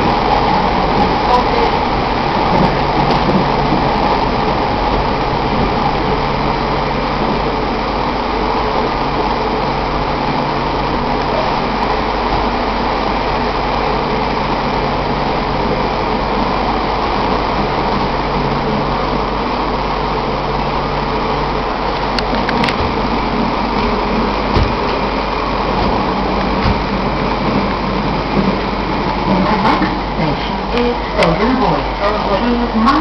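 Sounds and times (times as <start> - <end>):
constant low hum: 0.0 - 33.0
train wheels and motors roaring: 0.0 - 33.0.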